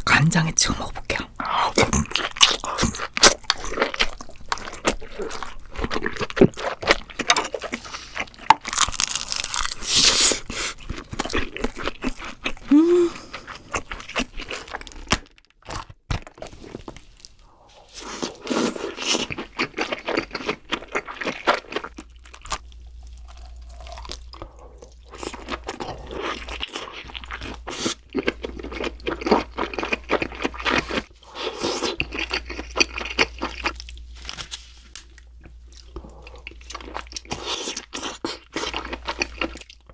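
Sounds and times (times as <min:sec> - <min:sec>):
crab crunching and chewing: 0:01.4 - 0:17.4, 0:18.0 - 0:39.9.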